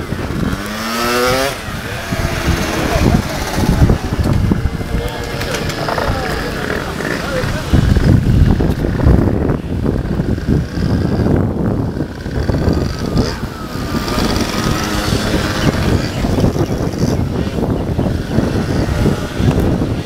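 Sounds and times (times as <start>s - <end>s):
mopeds riding past: 0.0s - 20.0s.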